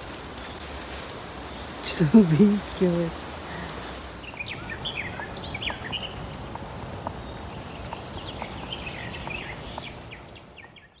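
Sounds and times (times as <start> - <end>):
songbirds chirping and singing: 1.5 - 11.0.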